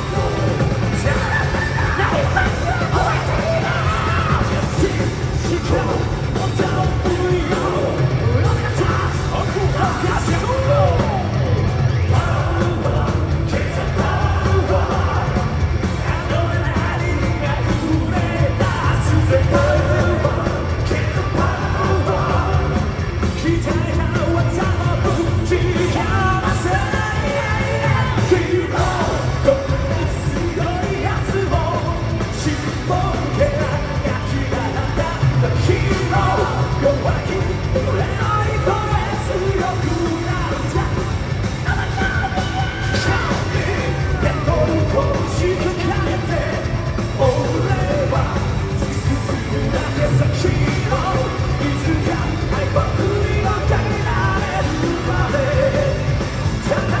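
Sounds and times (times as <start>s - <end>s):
man singing and shouting: 0.0s - 57.0s
rock band playing: 0.0s - 57.0s.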